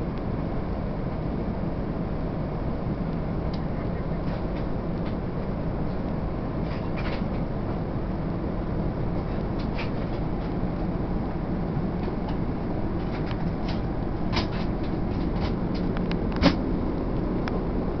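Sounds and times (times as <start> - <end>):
aircraft cabin rush: 0.0 - 18.0.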